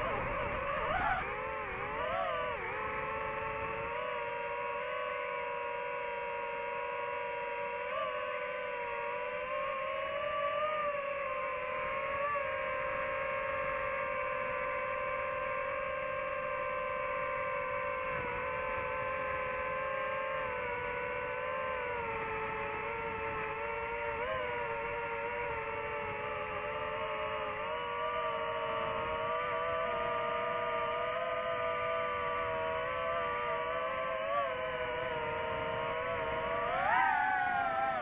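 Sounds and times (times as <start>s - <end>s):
drone propellers whining: 0.0s - 38.0s.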